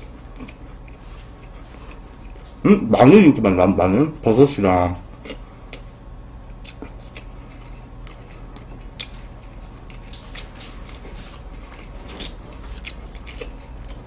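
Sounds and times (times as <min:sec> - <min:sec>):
crunchy pastry chewing: 0:00.0 - 0:02.6, 0:05.1 - 0:14.0.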